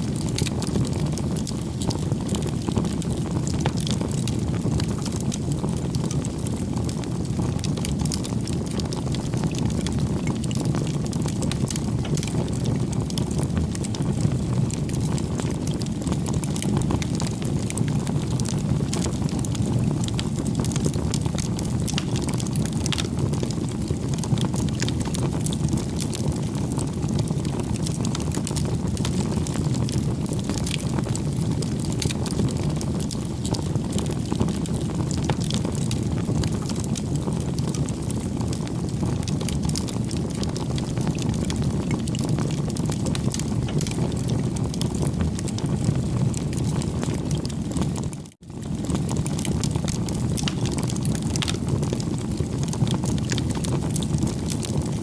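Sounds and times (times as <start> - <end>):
burning wood crackling and popping: 0.0 - 55.0
campfire low rumble: 0.0 - 55.0.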